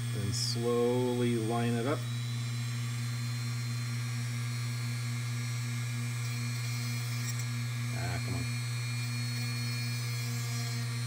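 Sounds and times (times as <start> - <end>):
rotary tool whining: 0.0 - 11.0.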